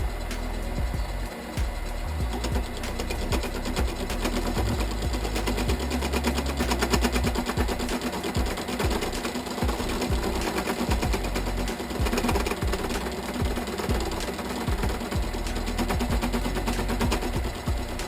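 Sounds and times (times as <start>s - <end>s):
metal lathe whirring and rattling: 0.0s - 18.0s.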